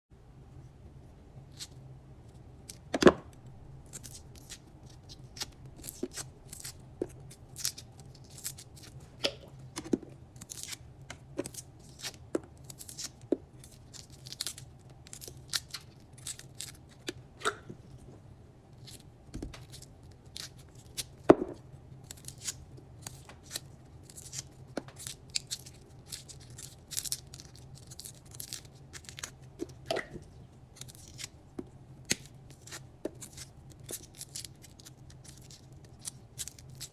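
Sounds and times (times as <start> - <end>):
steady low hum: 0.1 - 36.9
garlic skin crackling and tearing: 2.7 - 9.3, 10.4 - 10.8, 11.4 - 17.6, 18.8 - 21.3, 22.0 - 31.4, 32.0 - 36.9.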